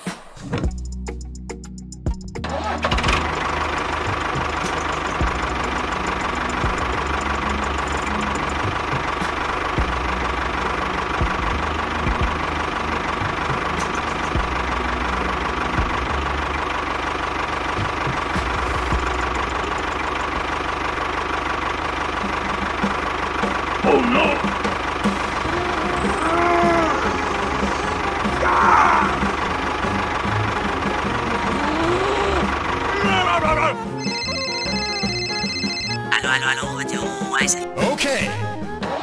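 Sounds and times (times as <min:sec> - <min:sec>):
tractor engine running: 0:00.6 - 0:37.6.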